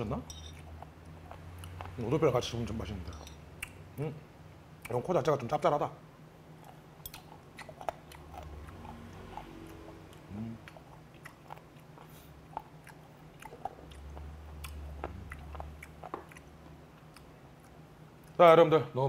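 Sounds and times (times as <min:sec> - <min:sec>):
person chewing with wet clicks: 0:00.4 - 0:03.8, 0:04.8 - 0:05.6, 0:06.5 - 0:18.4.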